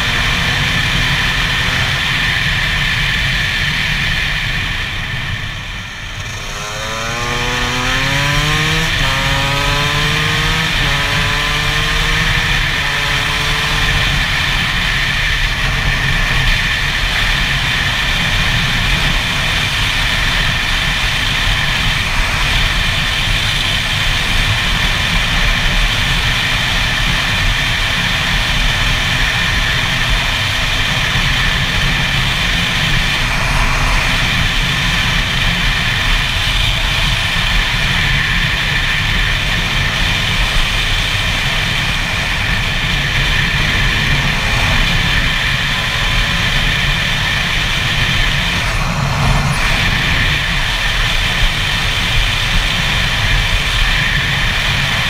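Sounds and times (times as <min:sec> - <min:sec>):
two-stroke motorcycle engine: 0:00.0 - 0:55.0
wind noise: 0:00.0 - 0:55.0.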